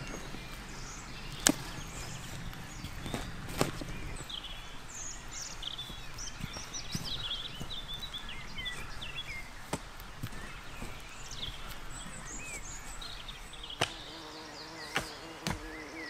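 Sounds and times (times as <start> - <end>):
digging tool striking ground: 0.0 - 14.1
birds chirping and whistling: 0.0 - 16.0.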